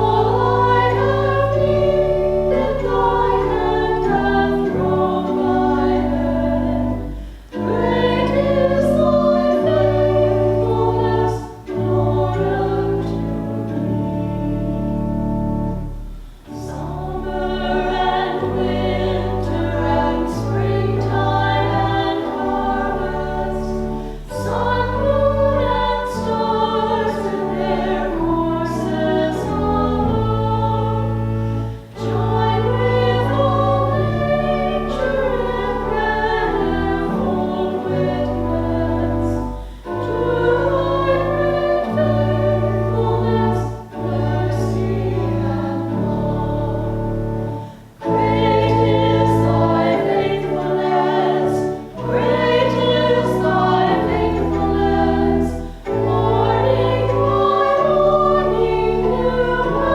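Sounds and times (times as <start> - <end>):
choir singing a hymn: 0.0 - 59.9
held chordal accompaniment: 0.0 - 59.9.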